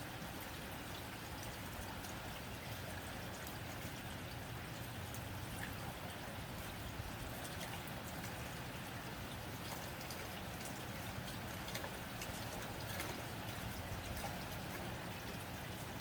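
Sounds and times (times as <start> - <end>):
rain on a tin roof: 0.0 - 16.0.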